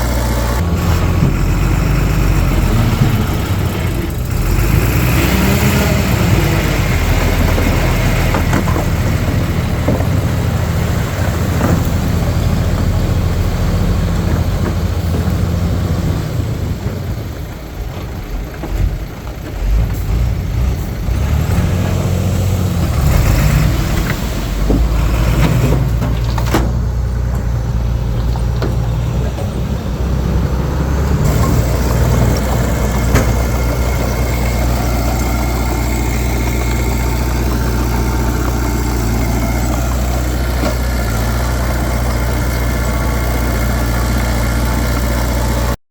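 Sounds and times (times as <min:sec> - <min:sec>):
diesel machine engine running: 0:00.0 - 0:45.8.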